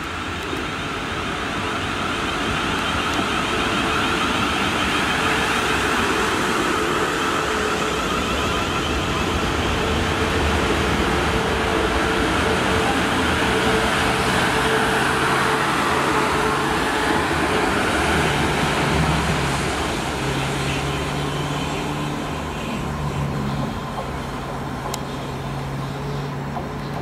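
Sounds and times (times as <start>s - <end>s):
approaching train hum: 0.0s - 27.0s
train wheels rumbling on rail: 0.0s - 27.0s.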